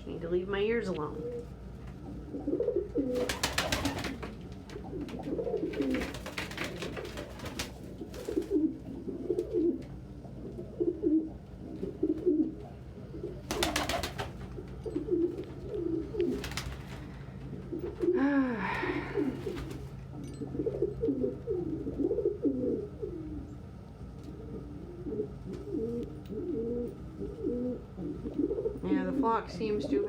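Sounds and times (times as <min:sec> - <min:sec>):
pigeons cooing: 0:01.0 - 0:30.0.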